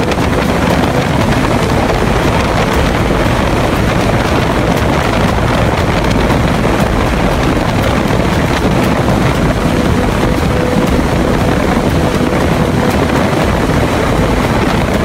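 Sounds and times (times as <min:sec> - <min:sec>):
airboat engine and propeller: 0:00.0 - 0:15.0
wind buffeting microphone: 0:00.0 - 0:15.0.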